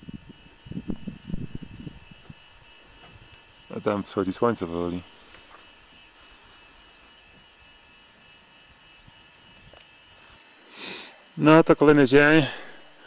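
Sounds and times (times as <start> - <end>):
thin steady hum: 0.0 - 13.0.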